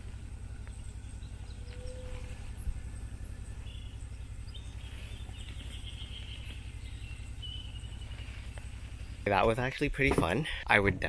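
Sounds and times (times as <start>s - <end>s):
birds calling: 0.0s - 9.8s
steady low rumble: 0.0s - 11.0s
insects calling: 0.2s - 9.6s.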